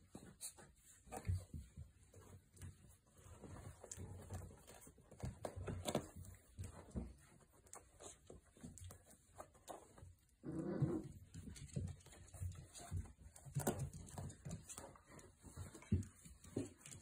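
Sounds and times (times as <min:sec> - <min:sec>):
puppies scuffling on blanket: 0:00.0 - 0:17.0.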